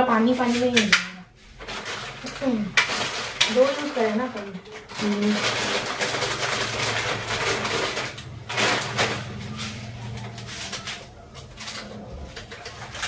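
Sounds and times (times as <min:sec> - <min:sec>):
noodles stirred in a wok: 0:00.3 - 0:11.7
scraping and knocks: 0:00.4 - 0:13.0
loud clatter: 0:00.8 - 0:13.0.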